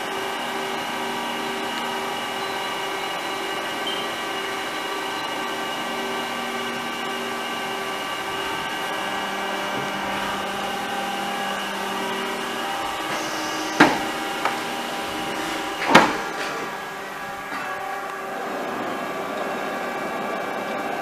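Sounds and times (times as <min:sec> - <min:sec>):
lathe machine humming: 0:00.0 - 0:21.0.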